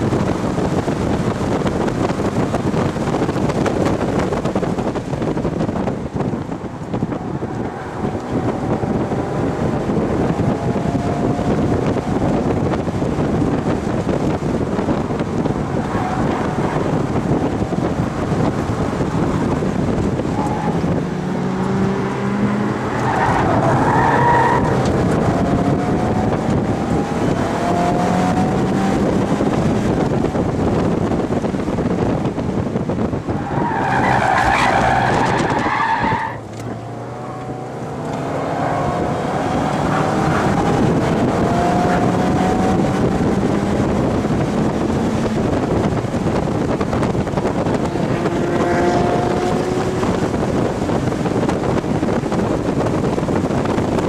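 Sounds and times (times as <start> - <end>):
car engine revving: 0.0 - 54.0
wind noise: 0.0 - 54.0.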